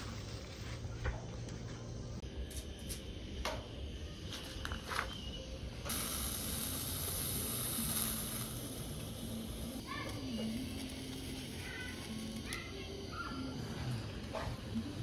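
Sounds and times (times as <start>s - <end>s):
soldering iron hissing: 2.0s - 15.0s.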